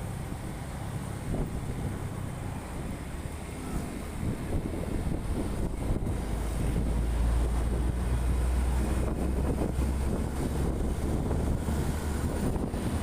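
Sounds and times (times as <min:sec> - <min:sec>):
moving vehicle rumble: 0:00.0 - 0:13.0
wind buffeting microphone: 0:00.0 - 0:13.0.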